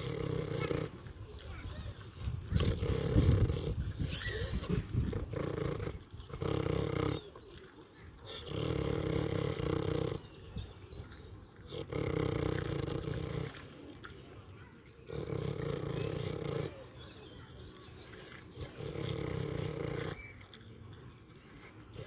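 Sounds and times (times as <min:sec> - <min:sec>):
pig snoring: 0:00.0 - 0:10.5, 0:11.4 - 0:14.2, 0:15.0 - 0:17.2, 0:18.0 - 0:22.0.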